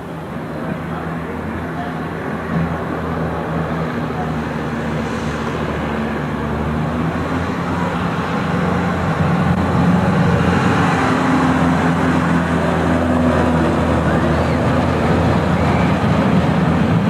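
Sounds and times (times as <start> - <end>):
amusement ride rumbling: 0.0 - 17.0.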